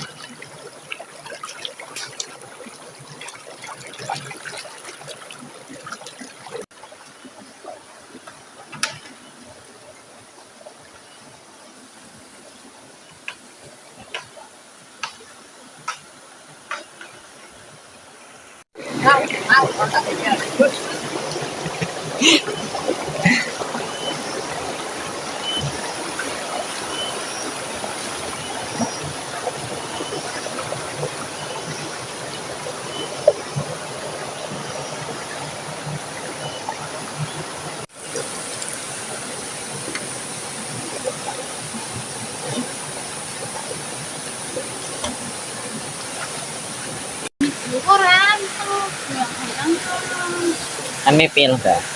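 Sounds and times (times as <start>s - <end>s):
river flowing over stones: 0.0s - 51.9s.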